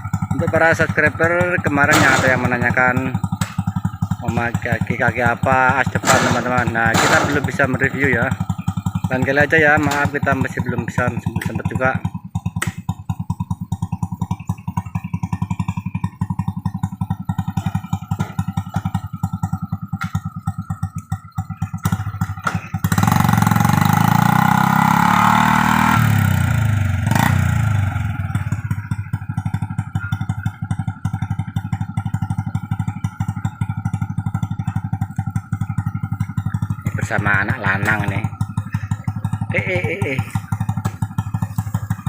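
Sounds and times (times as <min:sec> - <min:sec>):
motorcycle engine running and revving: 0:00.0 - 0:42.0.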